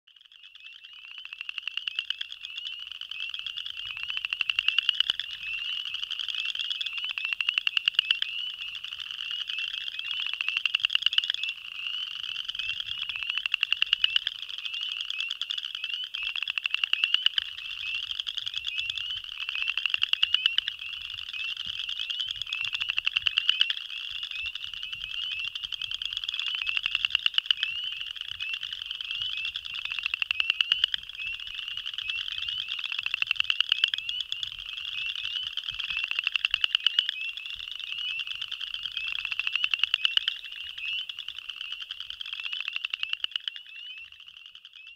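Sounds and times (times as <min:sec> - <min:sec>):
chorus of calling frogs: 0:00.1 - 0:44.9
frog trilling call: 0:00.1 - 0:44.9.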